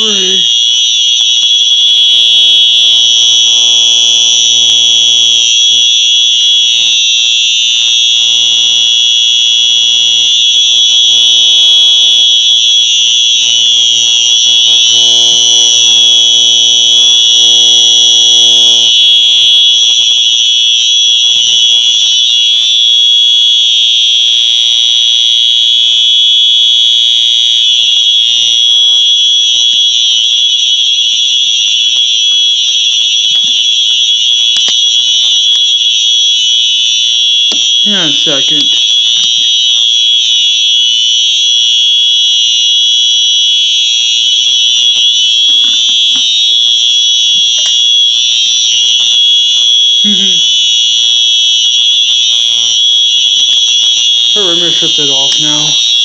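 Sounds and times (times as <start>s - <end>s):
high-pitched fire alarm tone: 0.0s - 56.0s.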